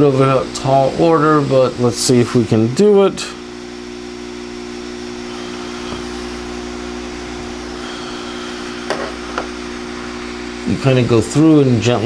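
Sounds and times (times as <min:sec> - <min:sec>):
hot air blower hum and hiss: 0:00.0 - 0:12.0.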